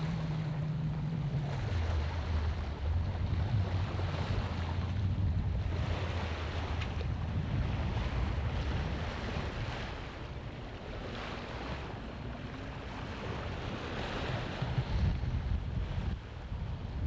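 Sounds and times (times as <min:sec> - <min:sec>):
waves washing around boat: 0:00.0 - 0:17.0
wind buffeting microphone: 0:00.0 - 0:17.0.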